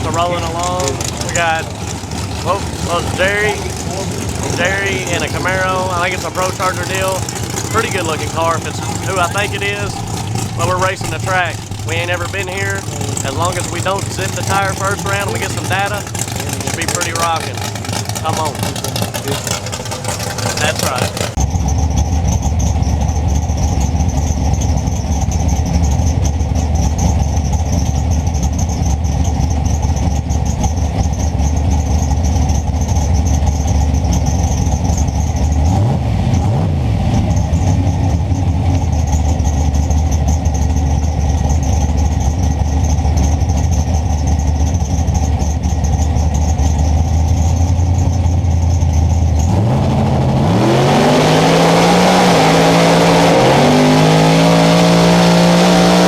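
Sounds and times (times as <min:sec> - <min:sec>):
race car engine idling: 0:00.0 - 0:36.4, 0:37.0 - 0:56.0.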